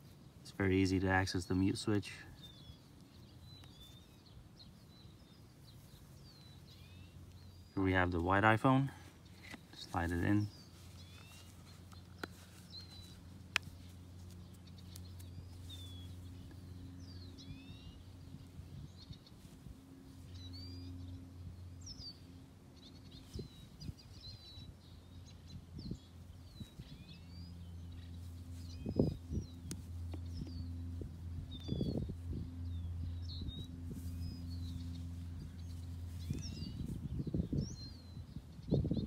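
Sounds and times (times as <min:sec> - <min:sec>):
low steady hum: 0:00.0 - 0:39.0
small birds chirping: 0:00.0 - 0:39.0.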